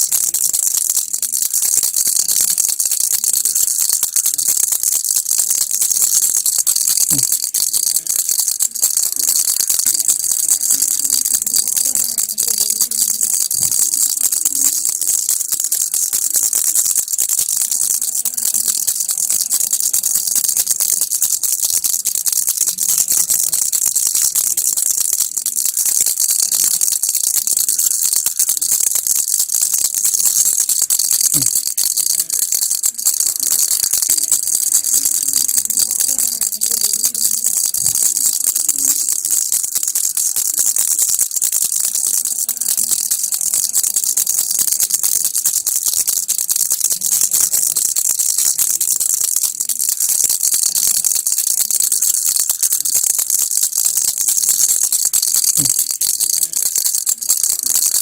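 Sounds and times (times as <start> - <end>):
baby rattle shaken: 0.0 - 58.0.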